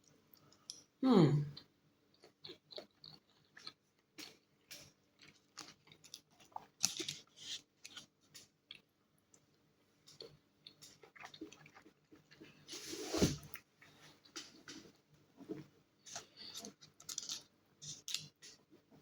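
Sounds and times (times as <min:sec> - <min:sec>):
person chewing: 0:01.6 - 0:18.9.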